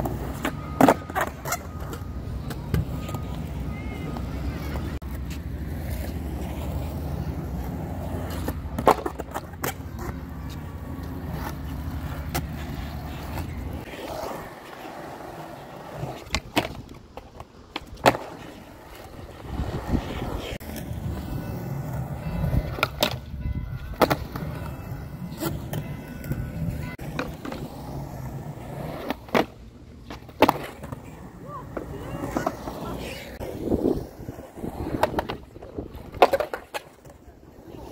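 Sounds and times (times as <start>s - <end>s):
skateboard clacking: 0.0s - 37.9s
skateboard wheels rolling on concrete: 0.0s - 37.9s.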